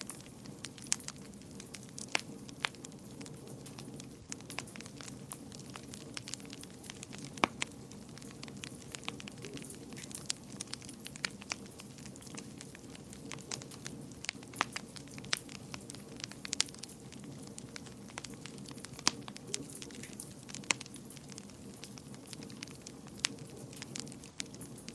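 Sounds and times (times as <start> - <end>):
wood fire crackling and popping: 0.0 - 24.9.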